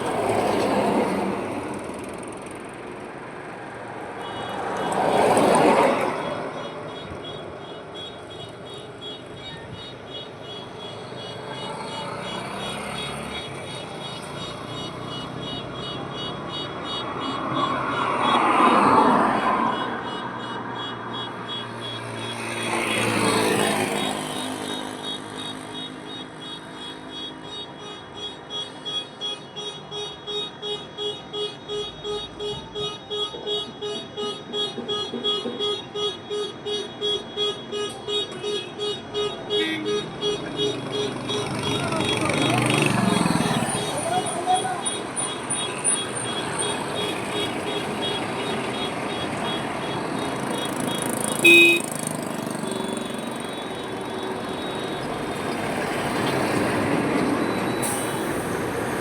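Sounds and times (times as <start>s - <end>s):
vehicles passing close: 0.0s - 29.2s, 31.2s - 59.0s
highway traffic noise: 0.0s - 59.0s.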